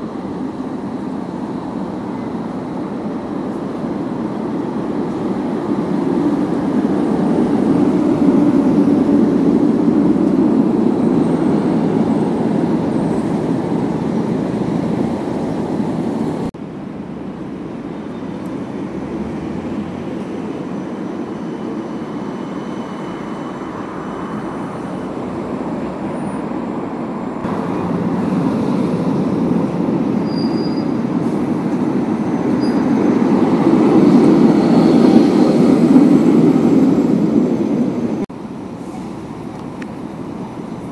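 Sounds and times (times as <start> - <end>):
tram wheels rolling on rails: 0.0 - 40.9.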